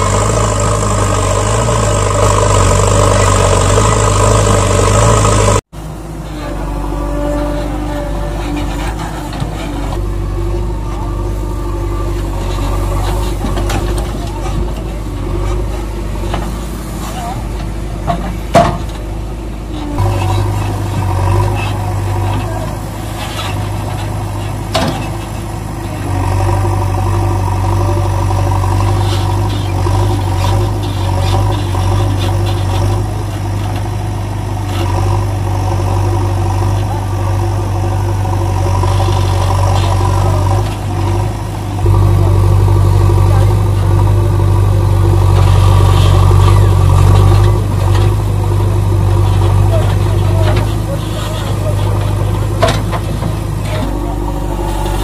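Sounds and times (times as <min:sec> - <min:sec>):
heavy vehicle engine idling: 0:00.0 - 0:55.0.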